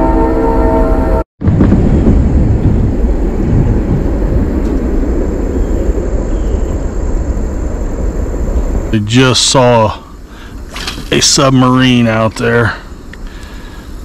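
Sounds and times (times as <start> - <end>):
wind buffeting microphone: 1.4 - 14.0.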